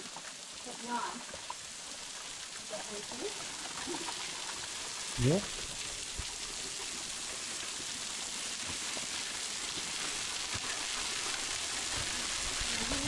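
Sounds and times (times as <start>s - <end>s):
waterfall splashing: 2.0s - 13.0s.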